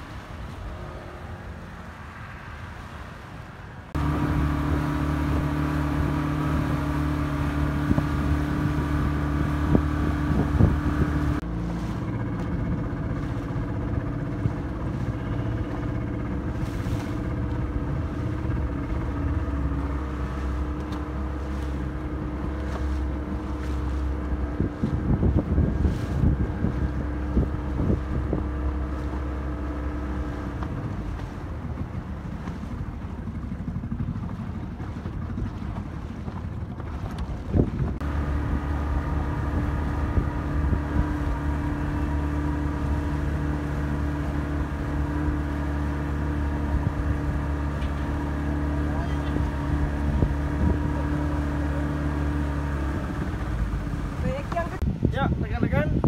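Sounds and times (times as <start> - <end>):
outboard motor running: 3.9 - 56.0.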